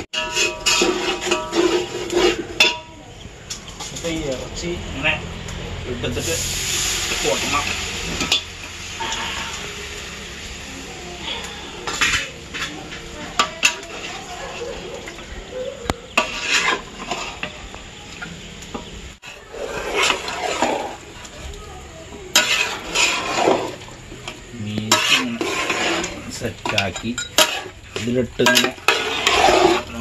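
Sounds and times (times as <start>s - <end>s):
spoon scraping a pan: 0.0s - 4.4s, 5.5s - 21.5s, 22.1s - 30.0s
light sizzling: 0.0s - 30.0s.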